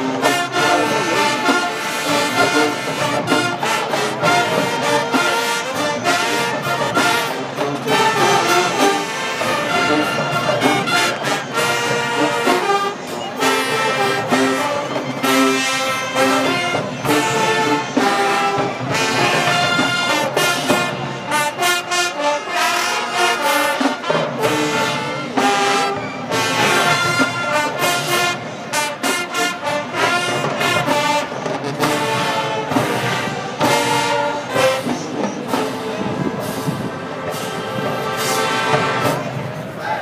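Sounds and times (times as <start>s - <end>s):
marching band brass playing: 0.0s - 40.0s.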